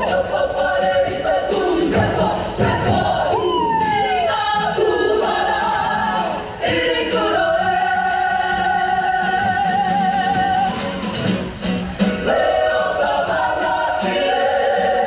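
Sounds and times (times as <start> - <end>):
group singing in chorus: 0.0 - 11.3, 12.1 - 15.0.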